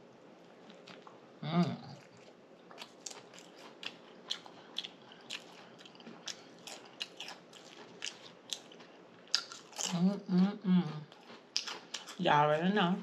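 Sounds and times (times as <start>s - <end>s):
person chewing sandwich: 0.4s - 10.1s, 10.8s - 12.2s.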